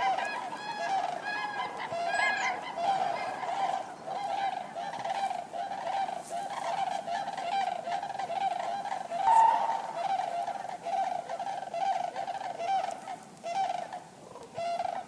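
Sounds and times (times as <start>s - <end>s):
cranes trumpeting: 0.0s - 12.9s.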